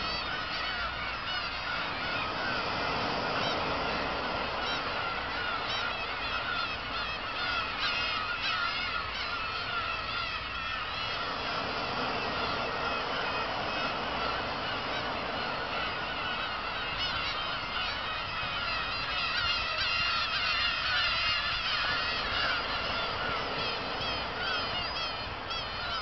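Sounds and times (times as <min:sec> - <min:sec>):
gulls calling: 0:00.0 - 0:26.0
steady background hiss: 0:00.0 - 0:26.0.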